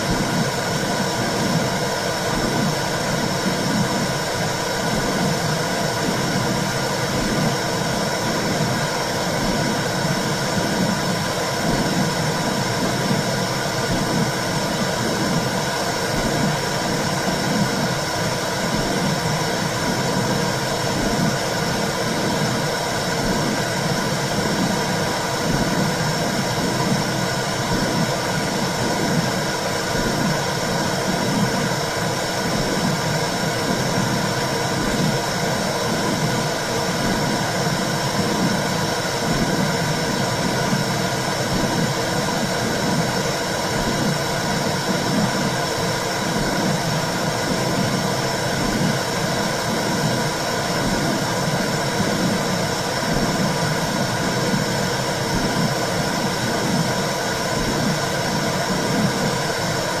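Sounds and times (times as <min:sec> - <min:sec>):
soft regular heartbeat pulse: 0:00.0 - 1:00.0.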